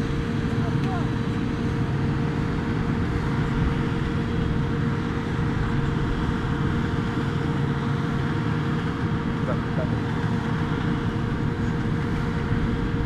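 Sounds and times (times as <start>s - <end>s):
truck engines idling: 0.0s - 13.0s.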